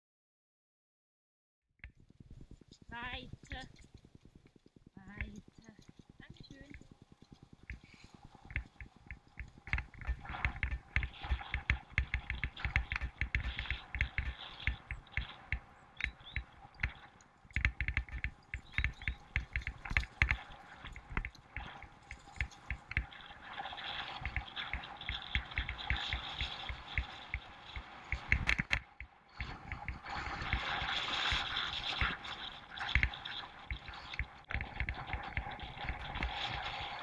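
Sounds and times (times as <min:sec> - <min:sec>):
bicycle rattling over bumpy ground: 0:01.8 - 0:37.0.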